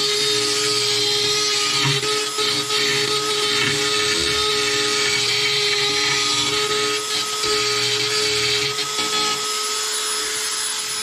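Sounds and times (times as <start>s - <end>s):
rotary tool grinding rubber: 0.0s - 9.6s.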